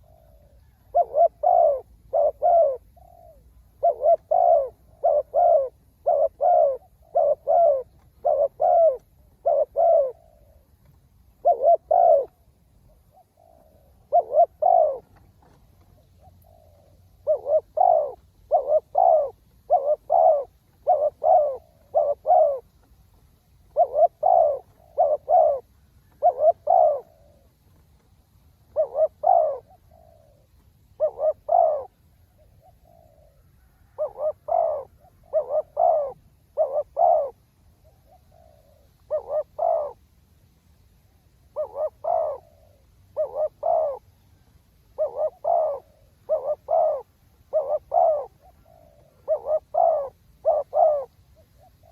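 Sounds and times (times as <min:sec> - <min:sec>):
dove cooing: 0:00.0 - 0:40.1, 0:41.4 - 0:51.9.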